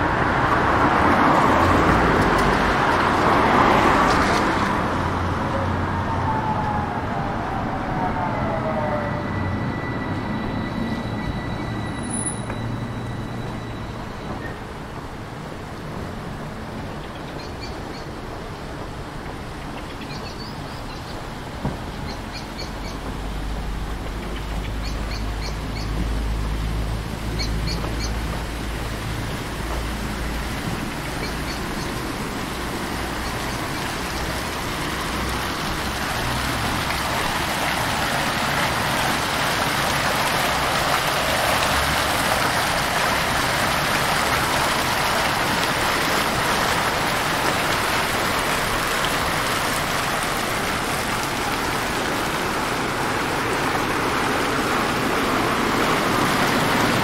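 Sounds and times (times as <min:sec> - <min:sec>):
fountain water splashing: 0:00.0 - 0:09.1, 0:12.0 - 0:57.0.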